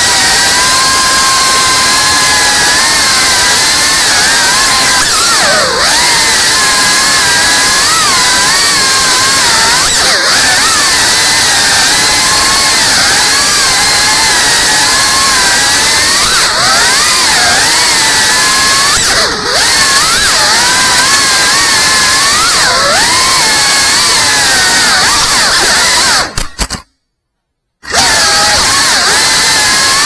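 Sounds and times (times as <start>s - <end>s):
drone motors whining: 0.0s - 26.9s, 27.8s - 30.0s.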